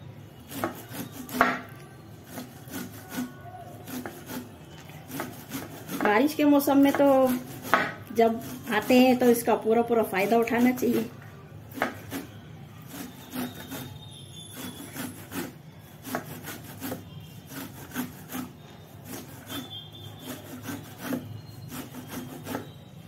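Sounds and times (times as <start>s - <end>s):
corn cob rasping on metal grater: 0.4s - 11.1s, 11.7s - 22.8s.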